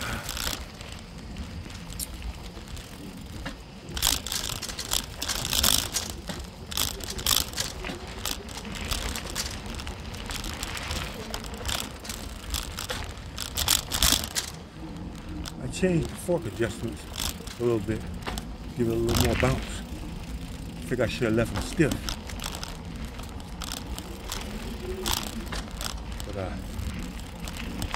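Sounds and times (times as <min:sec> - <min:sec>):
bike rattling over bumps: 0:00.0 - 0:27.9
bike tyres rumbling on dirt: 0:00.0 - 0:27.9.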